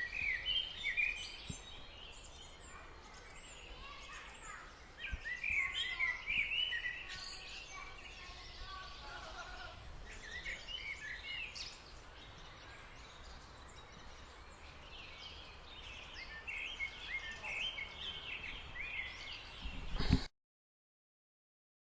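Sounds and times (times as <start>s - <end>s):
small songbirds chirping: 0.0s - 20.3s.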